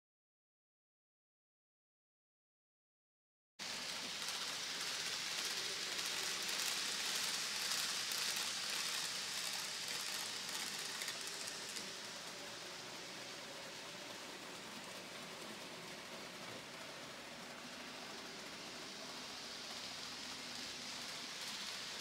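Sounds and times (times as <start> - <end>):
model trains whirring on track: 3.6 - 22.0.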